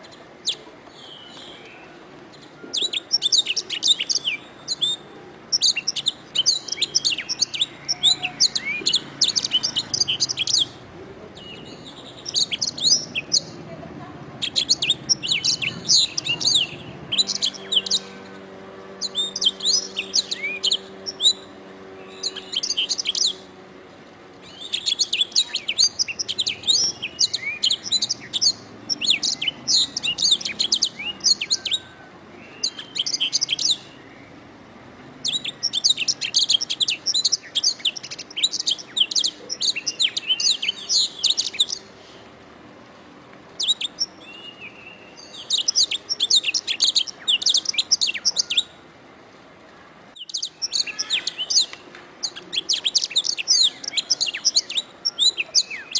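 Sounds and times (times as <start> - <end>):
canary singing: 0.0 - 42.1, 43.6 - 48.8, 50.1 - 55.9.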